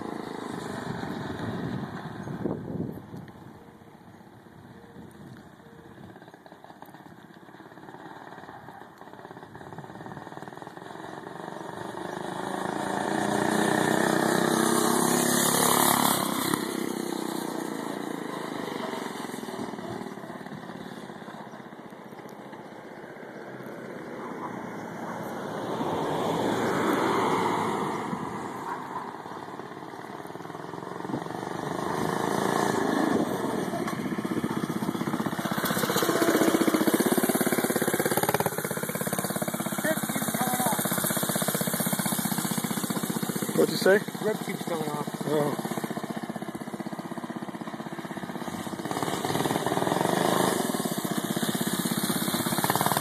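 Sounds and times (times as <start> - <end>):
small engine passing by: 0.0 - 53.0.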